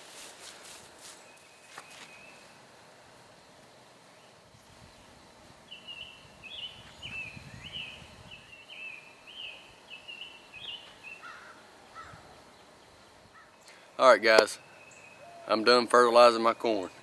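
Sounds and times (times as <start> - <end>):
songbird chirping: 1.0 - 2.7, 3.4 - 17.0.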